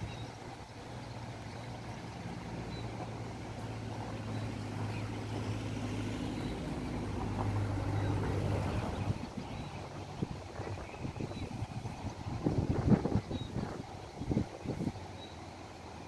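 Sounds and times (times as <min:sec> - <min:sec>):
distant engine humming: 0:00.0 - 0:16.0.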